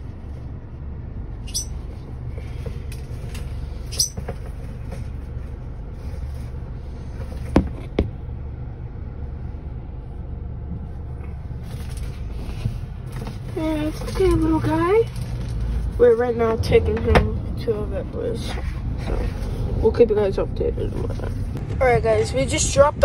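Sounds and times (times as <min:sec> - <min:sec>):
car engine rumble inside cabin: 0:00.0 - 0:23.0.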